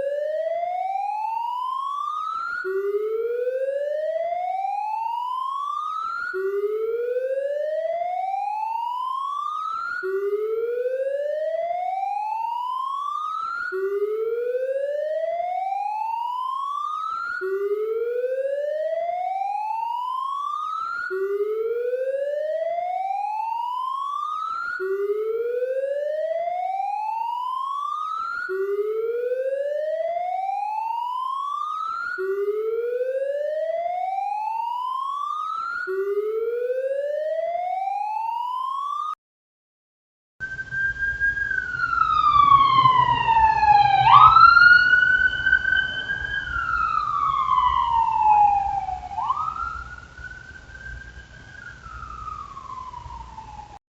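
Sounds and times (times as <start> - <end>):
different siren: 0.0 - 39.2, 40.4 - 53.8
siren wailing: 0.0 - 39.2, 40.4 - 53.8.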